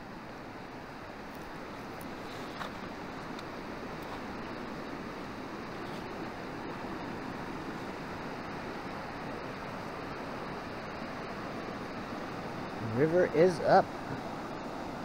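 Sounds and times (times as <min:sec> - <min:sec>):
fast-flowing river rushing: 0:00.0 - 0:15.0.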